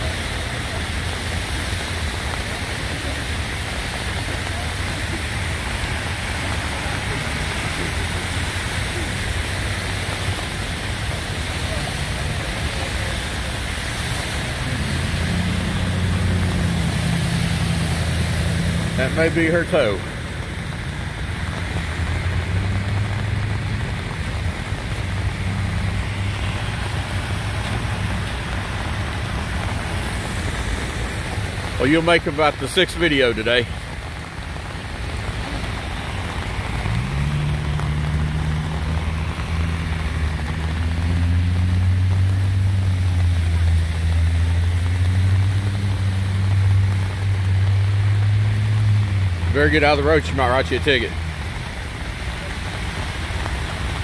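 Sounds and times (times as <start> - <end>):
heavy rain hissing: 0.0 - 54.0
water running across road: 0.0 - 54.0.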